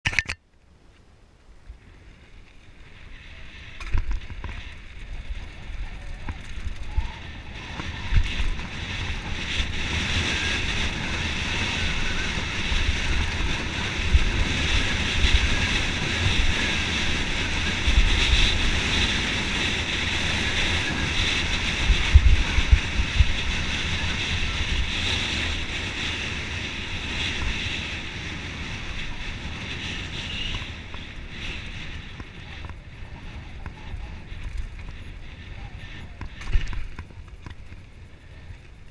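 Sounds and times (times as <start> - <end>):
bike tyres rolling over gravel: 0.9 - 38.9
wind buffeting microphone: 1.7 - 38.9.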